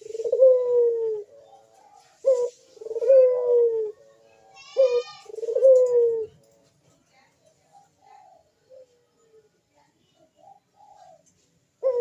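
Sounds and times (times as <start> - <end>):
dove cooing: 0.0 - 6.7, 7.5 - 9.5, 10.1 - 12.0.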